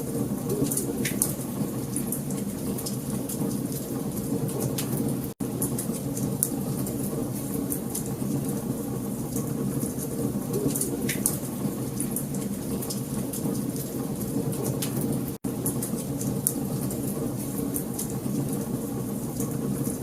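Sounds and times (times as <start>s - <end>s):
wood fire crackling and popping: 0.2s - 19.8s.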